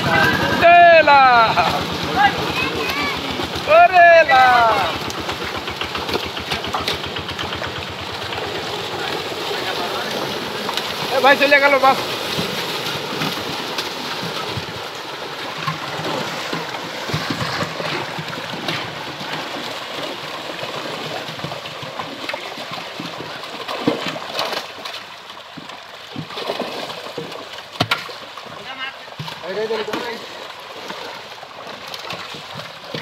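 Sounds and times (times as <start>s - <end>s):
fish splashing in net: 0.0s - 33.0s.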